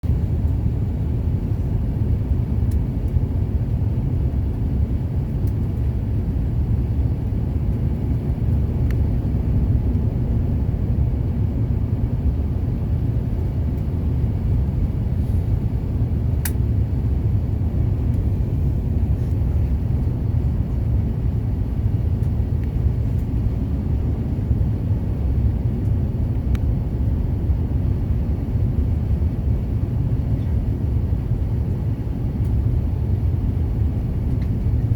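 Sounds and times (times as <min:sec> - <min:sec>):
jet cabin engine rumble: 0:00.0 - 0:34.9.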